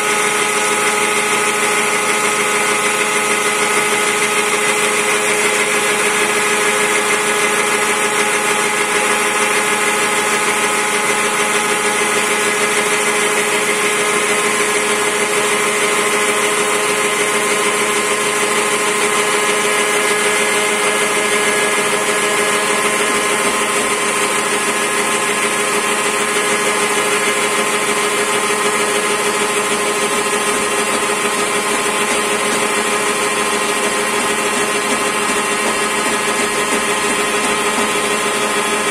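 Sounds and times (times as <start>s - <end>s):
cnc spindle whine: 0.0s - 38.9s.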